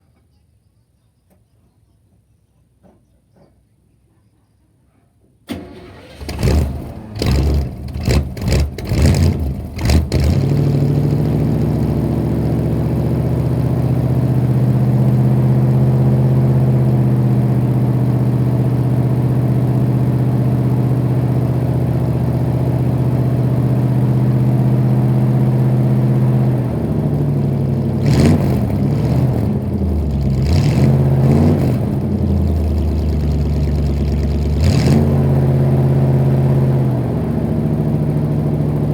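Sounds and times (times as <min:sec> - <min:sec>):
car engine idling: 0:05.5 - 0:38.9
car engine revving: 0:05.5 - 0:38.9
car engine starting: 0:05.5 - 0:38.9.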